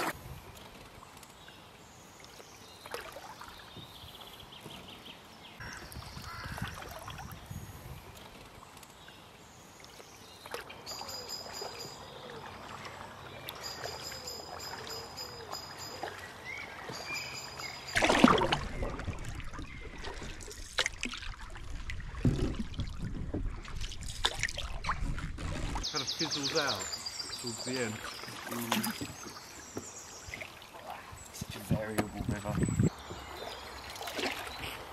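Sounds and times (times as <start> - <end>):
paddles splashing in water: 0.0 - 34.9
water lapping at canoe hull: 0.0 - 34.9.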